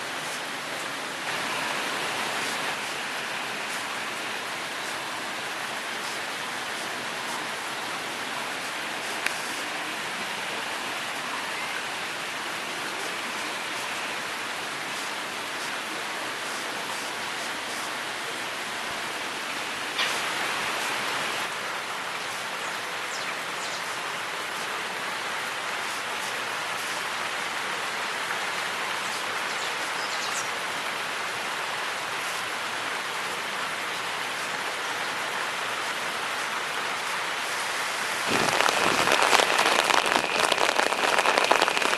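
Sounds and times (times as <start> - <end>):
water rushing down rocks: 0.0 - 41.9.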